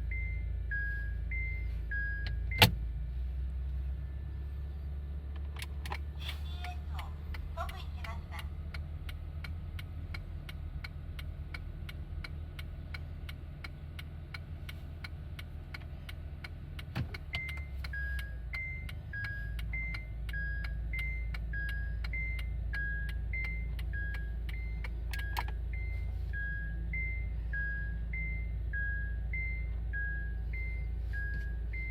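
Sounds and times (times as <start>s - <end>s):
car engine idling hum: 0.0s - 31.9s.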